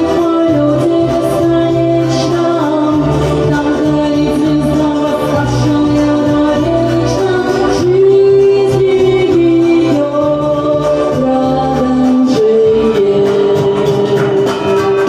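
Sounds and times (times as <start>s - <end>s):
person singing long notes: 0.0s - 15.0s
pop backing track: 0.0s - 15.0s.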